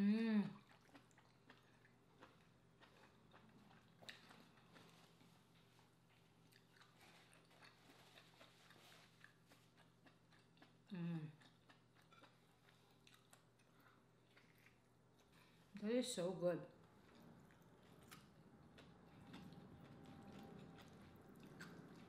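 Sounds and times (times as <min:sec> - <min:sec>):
quiet chewing: 0:00.4 - 0:15.8, 0:16.6 - 0:22.0.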